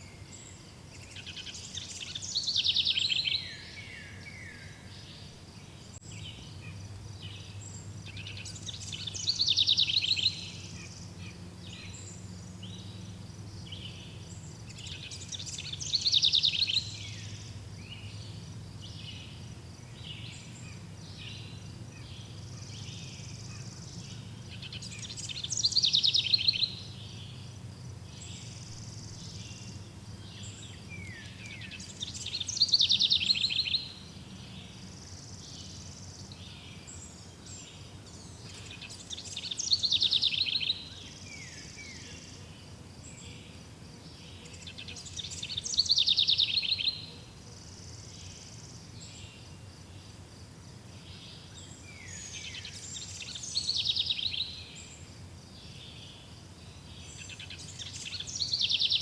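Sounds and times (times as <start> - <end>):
bird singing fast trill: 0.0 - 42.6, 43.2 - 50.1, 51.0 - 59.0
small birds chirping: 0.0 - 59.0.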